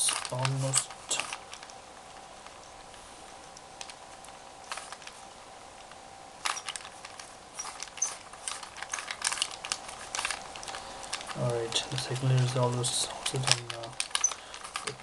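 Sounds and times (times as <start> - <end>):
puzzle cube layers clicking: 0.0 - 15.0.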